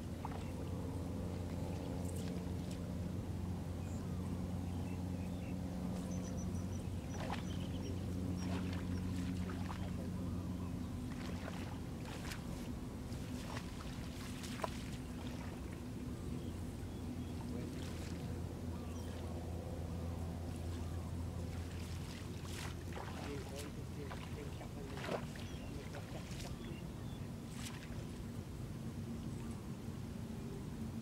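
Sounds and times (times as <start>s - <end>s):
water splashing and sloshing: 0.0s - 3.3s, 5.4s - 29.6s
steady low hum: 0.0s - 31.0s.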